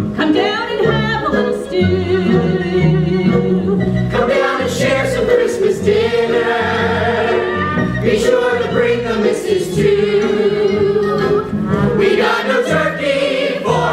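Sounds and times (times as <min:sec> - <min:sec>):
instrumental accompaniment with bass: 0:00.0 - 0:13.9
group of voices singing: 0:02.2 - 0:13.9.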